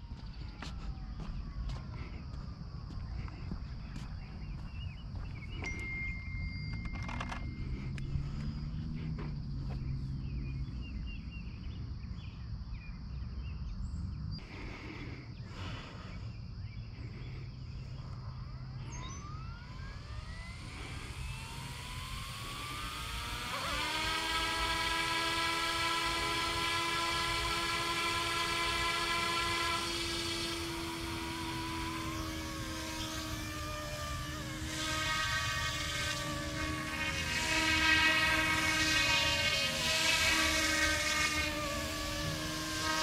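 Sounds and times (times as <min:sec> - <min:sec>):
rc helicopter motor whine: 0:00.0 - 0:11.5, 0:14.4 - 0:43.0.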